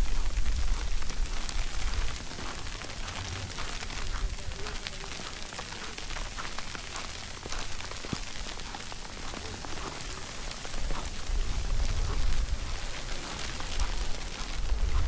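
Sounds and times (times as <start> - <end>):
hiss of falling snow: 0.0 - 15.0
small irregular ticks: 0.0 - 15.0.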